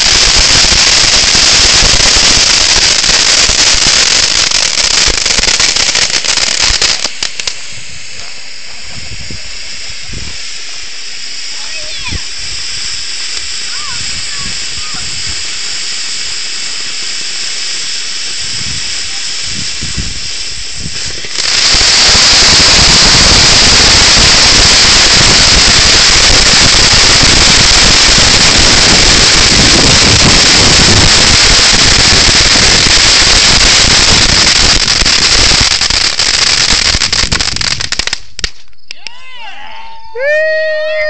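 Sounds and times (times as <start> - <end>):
fireworks rapid bangs: 0.0 - 38.7
fireworks cracks: 0.0 - 39.4
fireworks hissing: 0.0 - 41.0.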